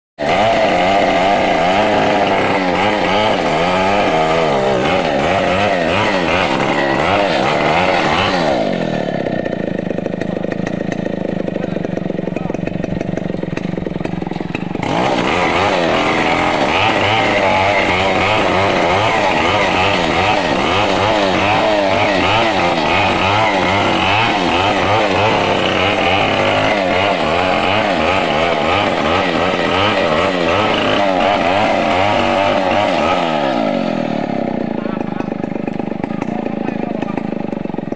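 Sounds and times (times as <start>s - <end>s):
chainsaw cutting wood: 0.2s - 37.9s.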